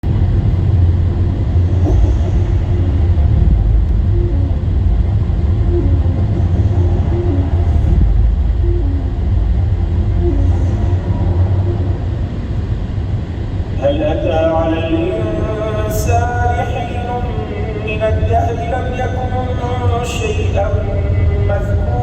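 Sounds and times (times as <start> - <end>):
low rumble or hum: 0.0 - 22.0.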